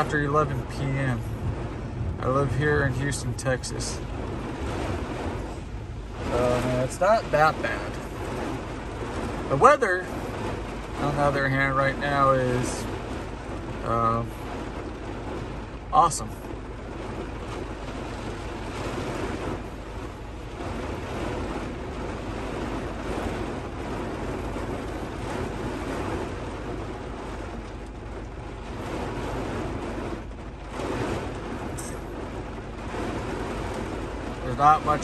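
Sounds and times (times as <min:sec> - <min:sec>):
gusting wind: 0:00.0 - 0:35.0
heavy rain on vehicle: 0:00.0 - 0:35.0.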